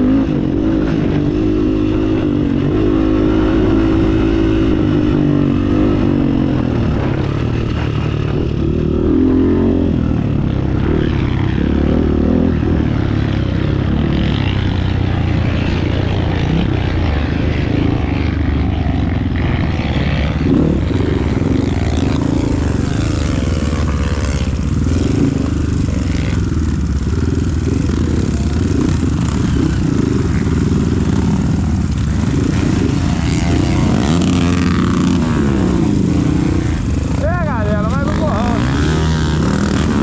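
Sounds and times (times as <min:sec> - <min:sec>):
vehicle engine running: 0:01.9 - 0:40.0.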